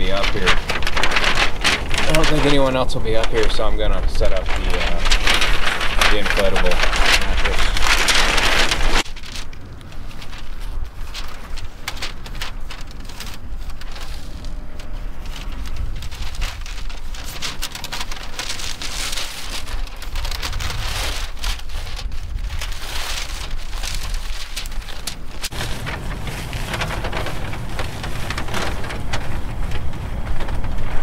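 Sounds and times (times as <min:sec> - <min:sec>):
wind buffeting microphone: 0:00.0 - 0:18.8, 0:19.6 - 0:31.0
plastic sheet crinkling and rustling: 0:00.0 - 0:31.0.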